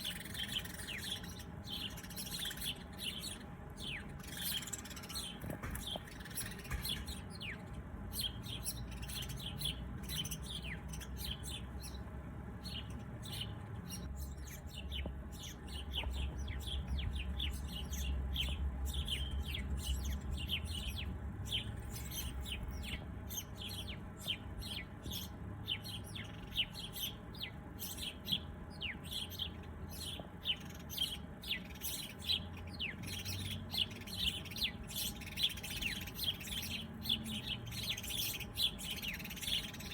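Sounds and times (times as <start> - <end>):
low steady rumble: 0.0 - 39.9
songbirds chirping: 0.0 - 39.9.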